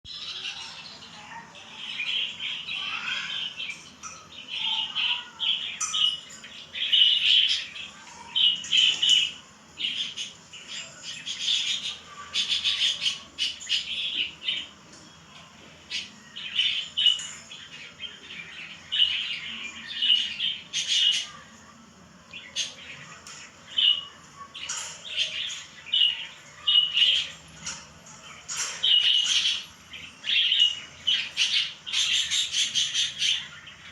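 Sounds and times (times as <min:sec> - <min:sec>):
lovebirds chirping and squawking: 0:00.1 - 0:33.9.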